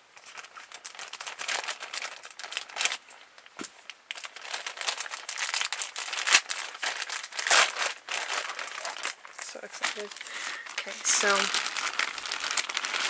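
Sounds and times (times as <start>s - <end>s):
packaging crinkling: 0.2s - 13.0s.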